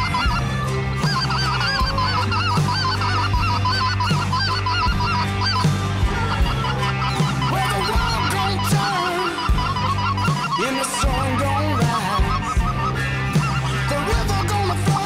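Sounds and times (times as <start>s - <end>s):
background music with beat: 0.0s - 15.0s
geese calling: 0.0s - 15.0s.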